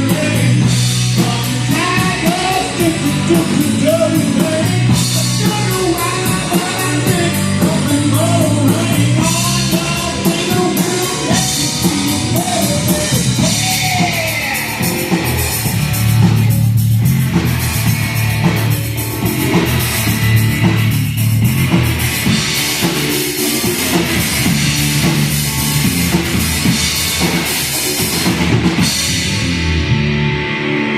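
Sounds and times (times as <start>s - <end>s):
drum kit playing: 0.0s - 30.9s
loud rock music: 0.0s - 30.9s.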